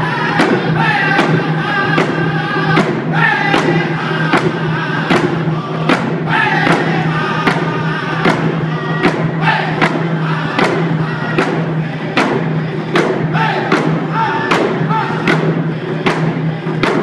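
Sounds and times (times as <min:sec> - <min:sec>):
group singing in unison: 0:00.0 - 0:17.0
hand drum beat: 0:00.0 - 0:17.0.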